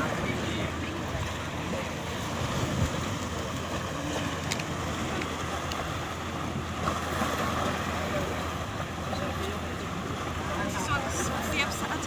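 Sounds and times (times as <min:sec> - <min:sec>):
wind buffeting microphone: 0:00.0 - 0:11.4
waves splashing against rocks: 0:00.0 - 0:12.0.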